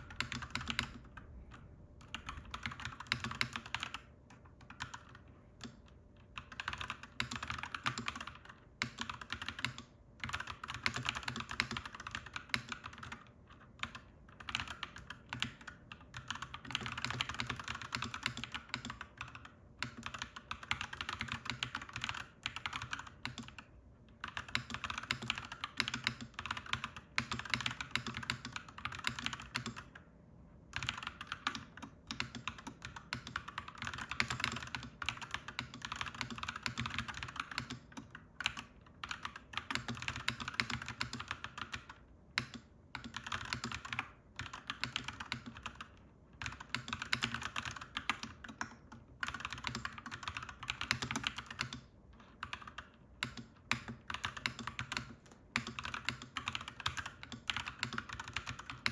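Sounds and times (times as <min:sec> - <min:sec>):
typing on mechanical keyboard: 0:00.0 - 0:30.1, 0:30.7 - 0:58.9.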